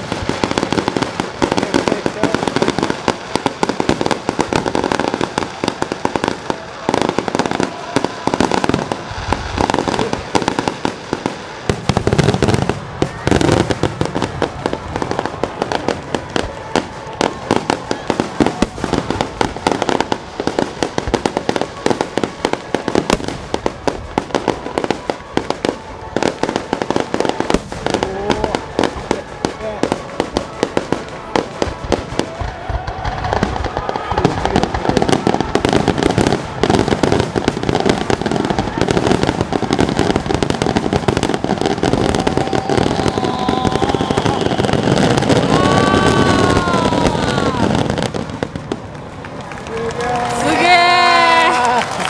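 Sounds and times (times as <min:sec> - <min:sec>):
deep fireworks booms: 0:00.0 - 0:52.0
fireworks cracks and bangs: 0:00.0 - 0:52.0.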